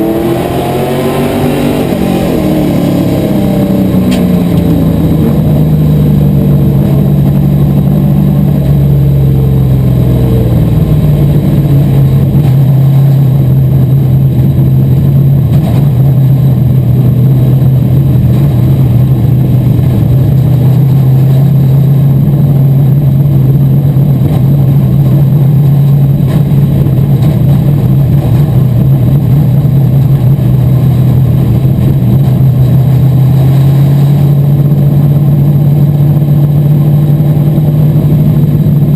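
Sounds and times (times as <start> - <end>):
race car engine running loud: 0.0 - 38.9.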